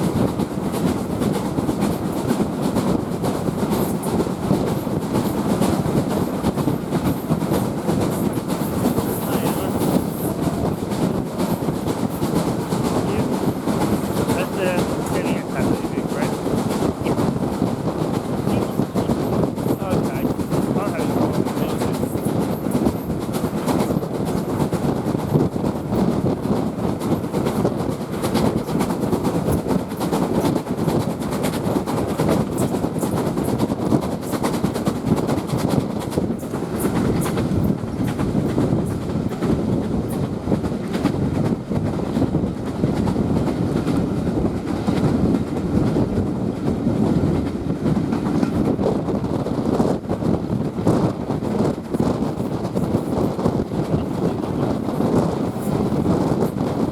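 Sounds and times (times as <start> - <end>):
train carriage rumble: 0.0 - 56.9.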